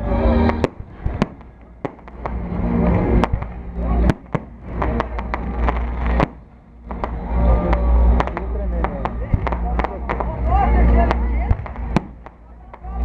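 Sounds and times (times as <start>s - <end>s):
low rumble: 0.0s - 13.0s
fireworks cracks and bangs: 0.4s - 13.0s.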